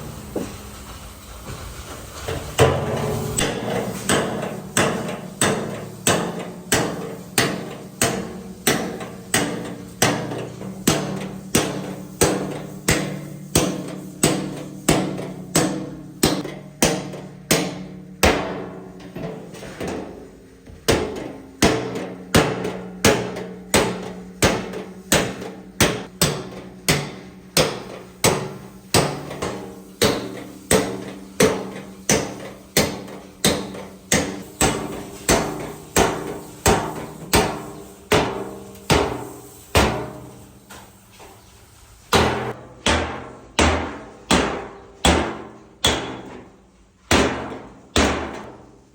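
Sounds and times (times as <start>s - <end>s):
hammer striking steel sheet: 2.2s - 40.5s, 42.1s - 48.7s.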